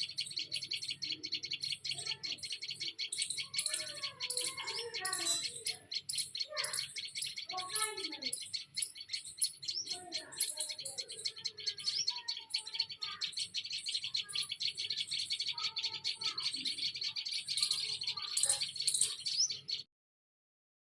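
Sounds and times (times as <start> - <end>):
flock of small birds chirping: 0.0 - 19.9
lower bird calls: 0.0 - 19.9.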